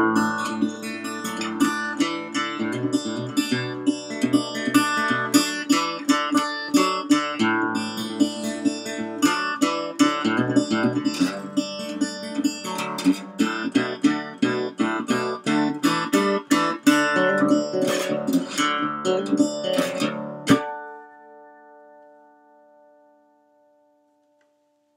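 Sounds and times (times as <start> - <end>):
slide resonator guitar blues: 0.0 - 22.4.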